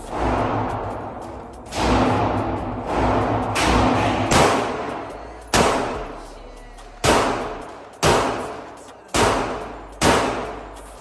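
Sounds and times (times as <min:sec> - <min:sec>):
gunshots echoing indoors: 0:00.0 - 0:06.3, 0:07.0 - 0:10.9.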